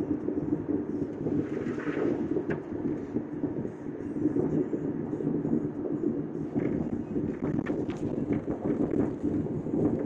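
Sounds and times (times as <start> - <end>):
road and tyre rumble in car: 0.0 - 10.0.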